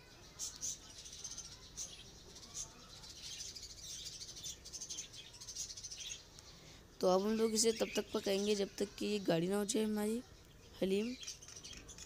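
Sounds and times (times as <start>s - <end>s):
faint high-pitched chirps: 0.0s - 12.0s.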